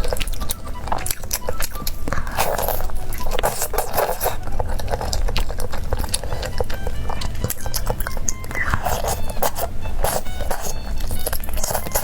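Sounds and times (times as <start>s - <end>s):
chewing and biting: 0.0s - 12.0s
wet mouth clicks and smacks: 0.0s - 12.0s.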